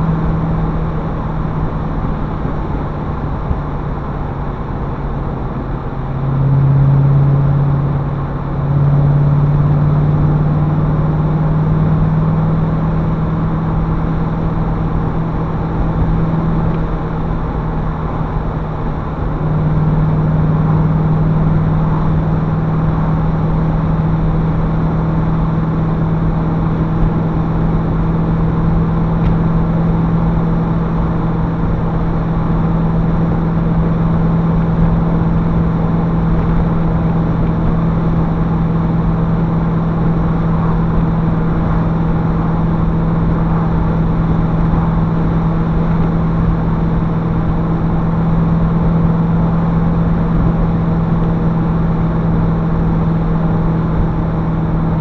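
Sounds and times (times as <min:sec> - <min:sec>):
car engine cruising: 0:00.0 - 0:55.0
tyre and road noise: 0:00.0 - 0:55.0.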